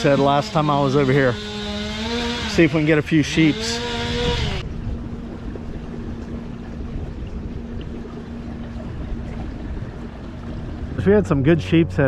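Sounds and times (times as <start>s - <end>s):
low steady hum: 0.0s - 12.0s
water noise: 0.0s - 12.0s
wind: 0.0s - 12.0s.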